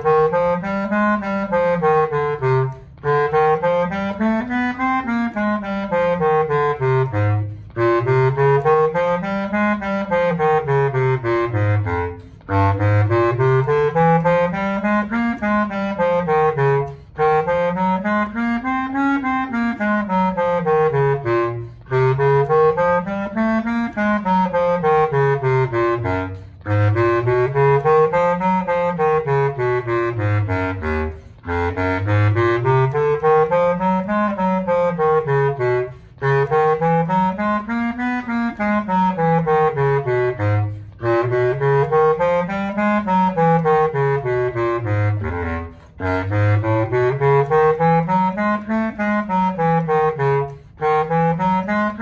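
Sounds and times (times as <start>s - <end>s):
bass clarinet playing scales: 0.0s - 52.0s.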